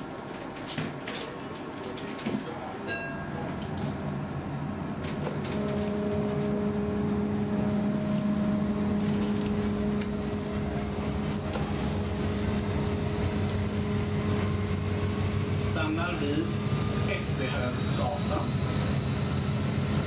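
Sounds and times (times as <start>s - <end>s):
tram electric hum: 0.0s - 20.0s
running gear rumble: 1.9s - 20.0s.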